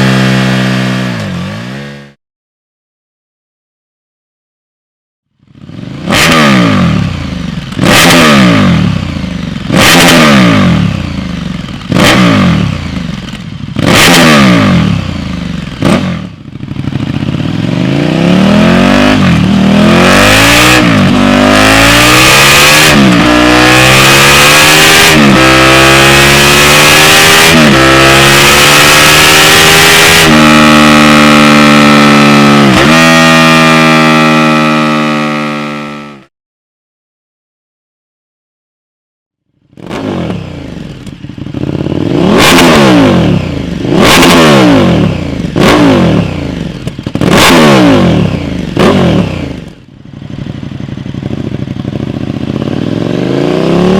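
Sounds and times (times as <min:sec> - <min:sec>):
motorcycle accelerating through gears: 0:00.0 - 0:02.2, 0:05.4 - 0:36.3, 0:39.7 - 0:53.9
motorcycle engine revving: 0:00.0 - 0:02.2, 0:05.4 - 0:36.3, 0:39.6 - 0:53.9.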